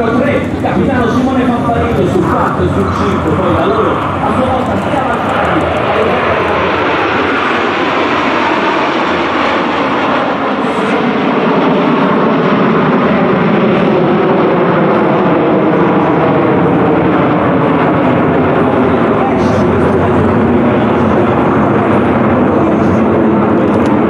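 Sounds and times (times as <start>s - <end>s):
jet aircraft flying overhead: 0.0s - 24.0s.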